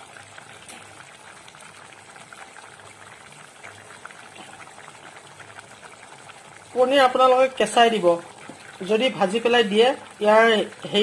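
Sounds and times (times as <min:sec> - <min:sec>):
gravy bubbling in a pot: 0:00.0 - 0:11.0.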